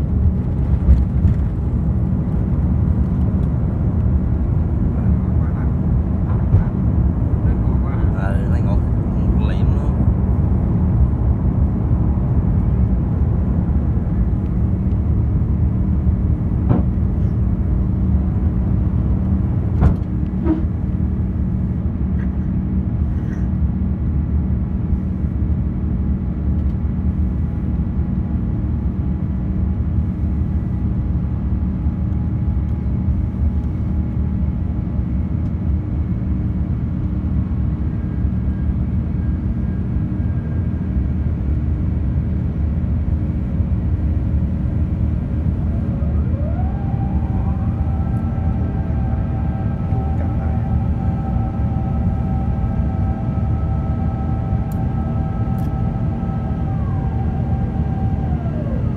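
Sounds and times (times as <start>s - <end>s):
airplane cabin roar: 0.0s - 58.9s.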